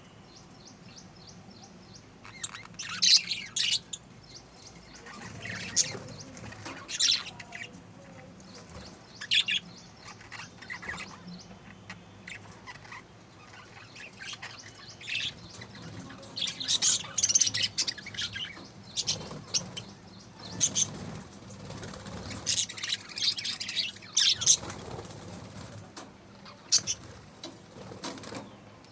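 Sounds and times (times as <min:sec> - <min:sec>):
birds chirping and squawking: 0:00.4 - 0:28.6.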